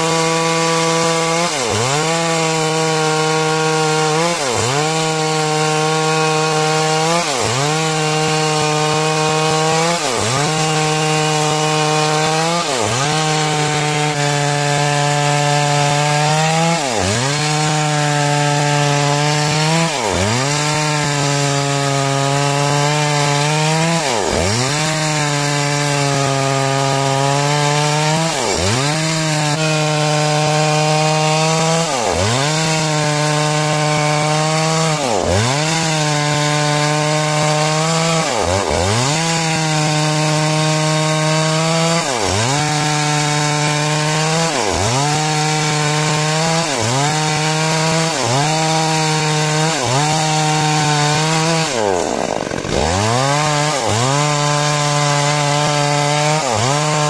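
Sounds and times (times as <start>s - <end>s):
chainsaw cutting through wood: 0.0s - 57.0s.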